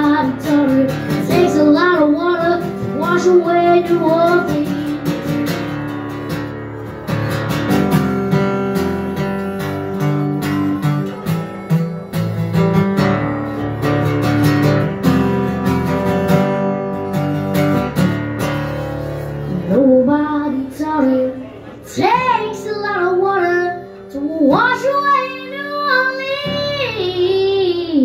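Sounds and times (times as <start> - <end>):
acoustic guitar strumming: 0.0 - 27.9.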